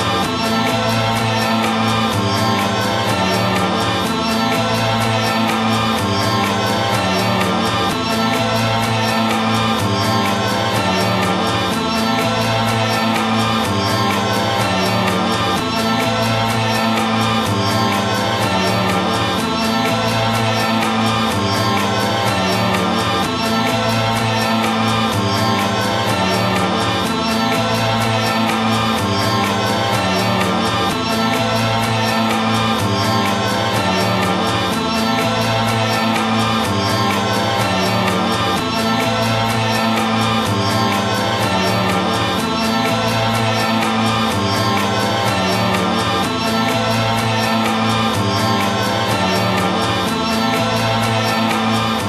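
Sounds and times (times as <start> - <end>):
background music with low tones: 0.0 - 52.0
steady ticking beat: 0.0 - 52.0.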